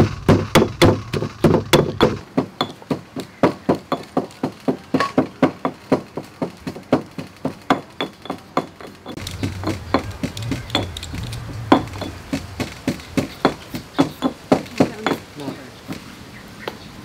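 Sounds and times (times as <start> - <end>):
pestle pounding in stone mortar: 0.0 - 16.0.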